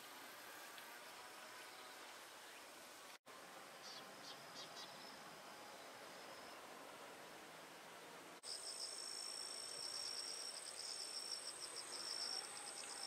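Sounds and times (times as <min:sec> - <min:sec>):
insect steady buzz: 0:00.0 - 0:13.0.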